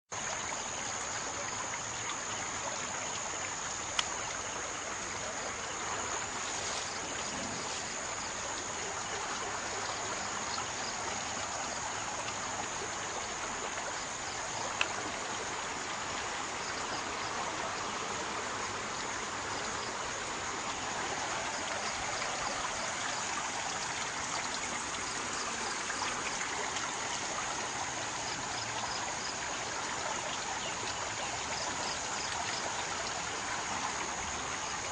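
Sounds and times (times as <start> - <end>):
floodwater rushing: 0.9 - 34.9.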